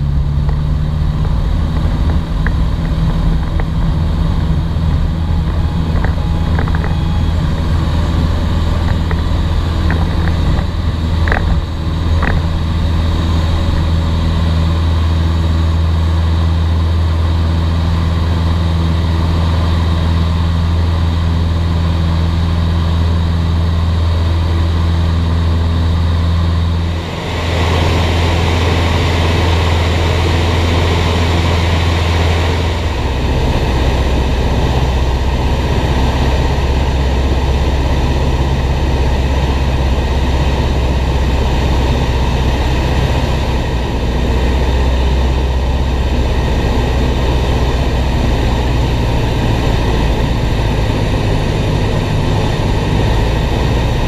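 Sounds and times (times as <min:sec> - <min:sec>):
light aircraft engine and propeller: 0:00.0 - 0:54.0
wind rush: 0:00.0 - 0:54.0.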